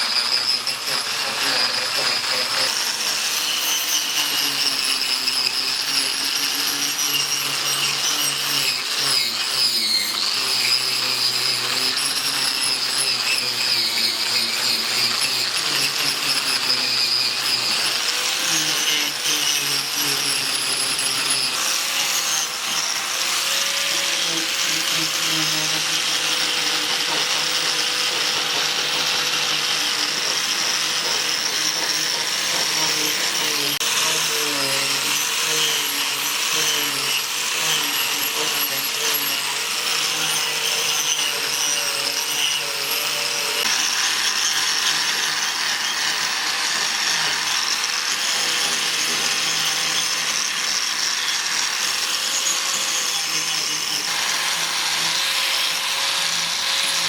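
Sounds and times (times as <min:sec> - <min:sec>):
angle grinder on wood: 0:00.0 - 0:57.0.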